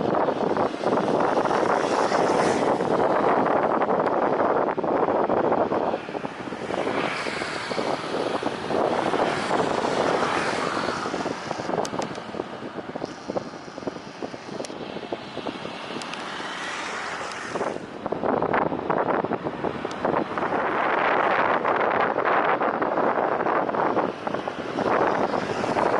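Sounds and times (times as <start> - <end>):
jet airliner engines rushing: 0.0 - 25.9
wind buffeting microphone: 0.0 - 25.9.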